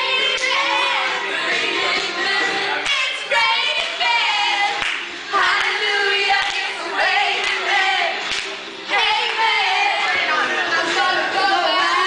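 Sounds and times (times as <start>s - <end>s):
girls singing and chanting: 0.0s - 12.0s.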